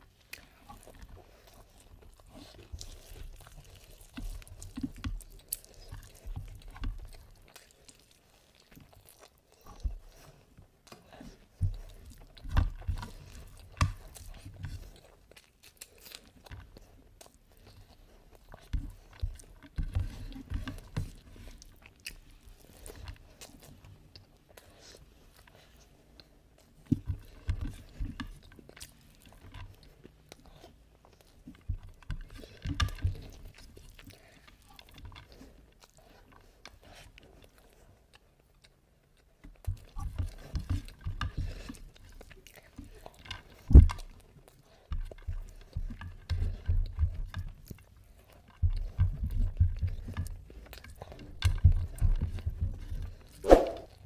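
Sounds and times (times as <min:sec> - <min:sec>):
chewing and mouth sounds: 0:00.0 - 0:54.0.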